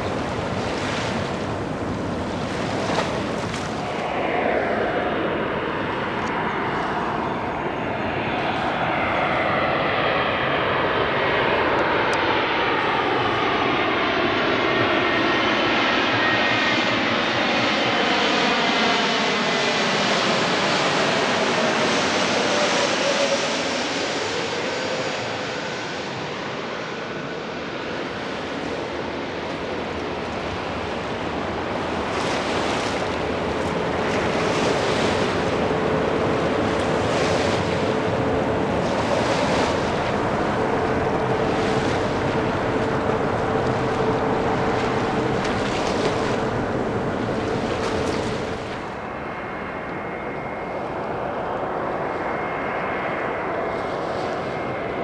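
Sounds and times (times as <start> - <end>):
high jet engine whine: 0.0 - 55.0
jet engines roaring: 0.0 - 55.0.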